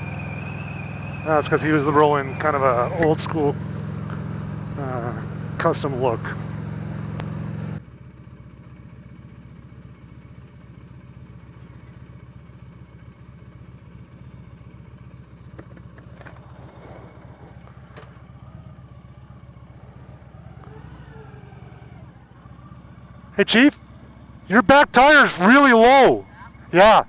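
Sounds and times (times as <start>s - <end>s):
motorcycle engine running: 0.0s - 26.9s
faint traffic: 0.0s - 27.0s.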